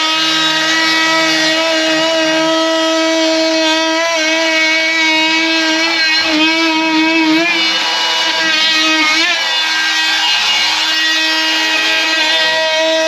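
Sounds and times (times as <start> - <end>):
oscillating multi-tool buzzing: 0.0 - 13.0.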